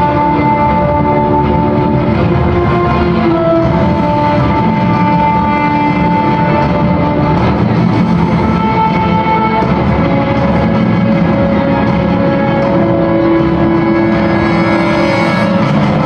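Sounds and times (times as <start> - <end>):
dense low accompaniment: 0.0 - 16.0
loud music with long held notes: 0.0 - 16.0.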